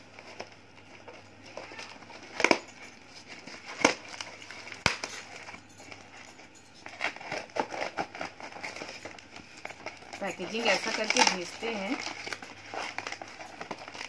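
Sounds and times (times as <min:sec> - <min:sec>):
parcel rustling: 0:00.0 - 0:14.0.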